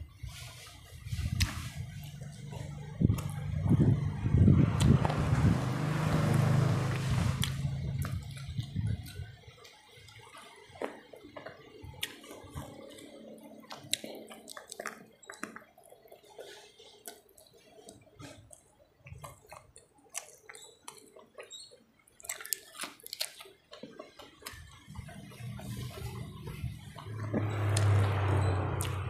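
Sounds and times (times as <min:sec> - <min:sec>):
wet chewing and mouth smacking: 0:01.4 - 0:05.2, 0:07.4 - 0:29.0.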